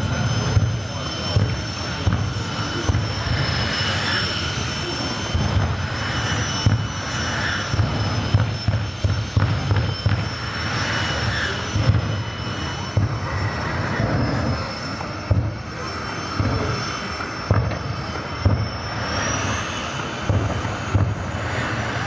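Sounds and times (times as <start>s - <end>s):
deep engine rumble: 0.0s - 22.0s
turbine engine whine: 0.0s - 22.0s.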